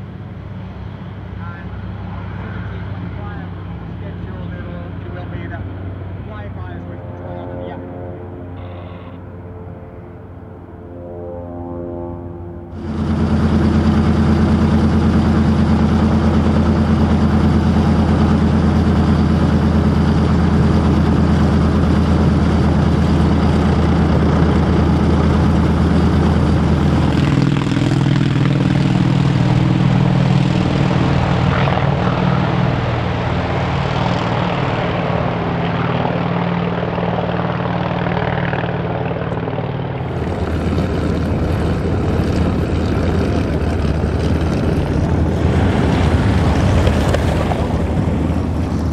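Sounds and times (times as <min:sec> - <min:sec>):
plane flying low overhead: 0:00.0 - 0:48.9
plane taxiing: 0:00.0 - 0:48.9
propeller plane engines running: 0:00.0 - 0:48.9.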